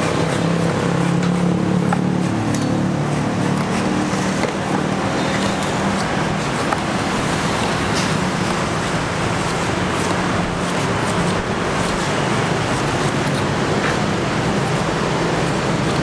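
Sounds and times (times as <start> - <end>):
machete cutting coconut husk: 0.0 - 16.0
road traffic: 0.0 - 16.0.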